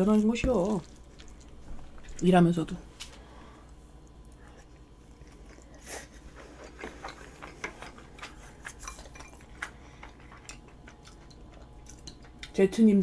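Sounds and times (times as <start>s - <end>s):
person chewing food: 0.0s - 2.2s, 3.0s - 12.6s.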